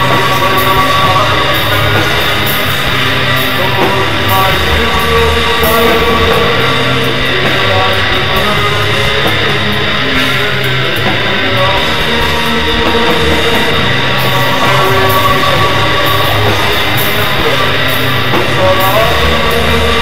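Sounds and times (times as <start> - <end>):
distorted electric guitars: 0.0 - 20.0
drums: 0.0 - 20.0.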